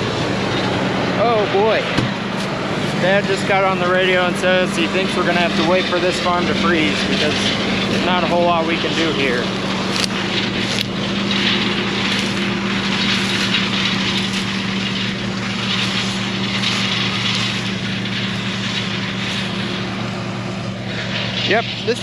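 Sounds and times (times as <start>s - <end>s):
diesel engine running: 0.0s - 22.0s
pulsing hiss: 0.0s - 22.0s.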